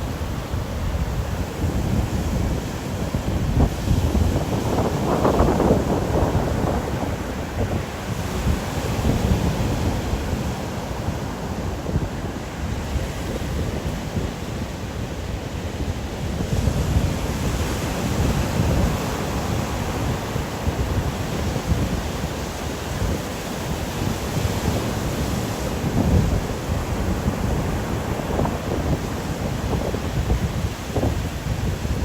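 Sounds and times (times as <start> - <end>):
ocean waves washing on shore: 0.0 - 32.0
wind buffeting microphone: 0.0 - 32.0.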